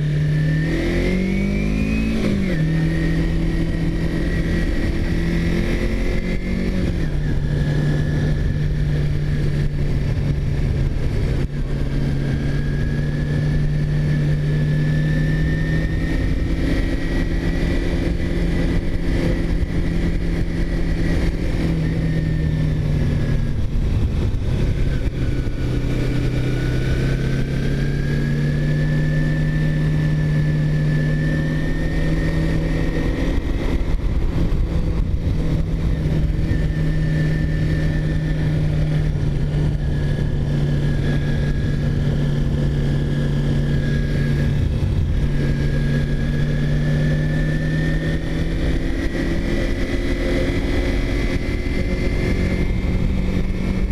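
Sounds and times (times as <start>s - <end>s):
vehicle engine cruising: 0.0s - 53.9s
wind rush: 0.0s - 53.9s.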